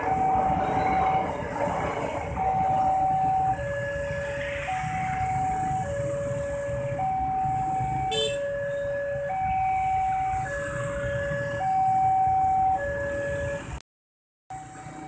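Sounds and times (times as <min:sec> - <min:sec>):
two-tone crossing alarm: 0:00.0 - 0:13.8.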